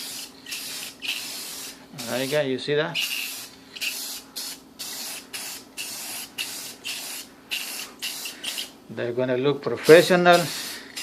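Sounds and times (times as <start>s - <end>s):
aerosol spray can hissing: 0.0s - 2.4s, 3.0s - 8.8s, 9.9s - 11.0s.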